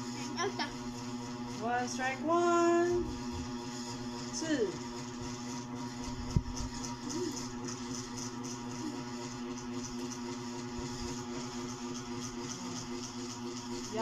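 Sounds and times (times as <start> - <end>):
steady motor hum: 0.0 - 14.0.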